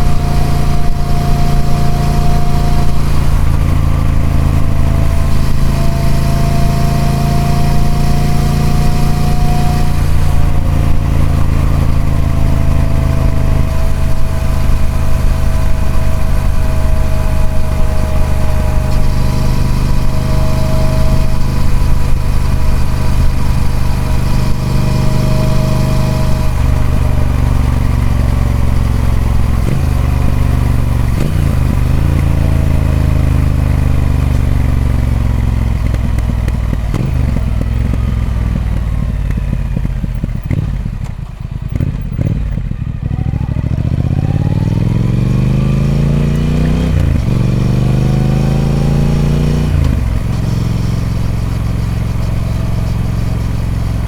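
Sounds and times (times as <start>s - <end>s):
gear change: 0.0s - 54.0s
motorcycle engine revving: 0.0s - 54.0s.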